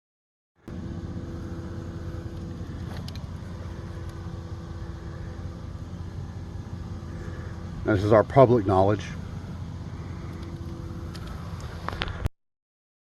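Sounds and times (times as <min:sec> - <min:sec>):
motor humming: 0:00.7 - 0:12.3.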